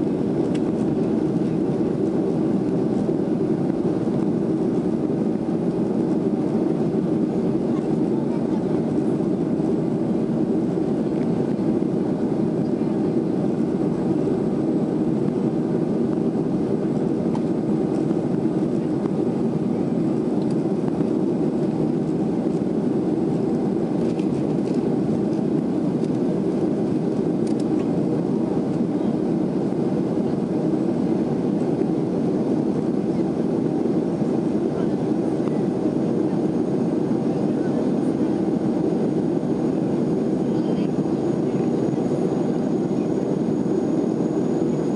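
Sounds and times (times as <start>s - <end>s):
airplane cabin engine rush: 0.0s - 44.9s.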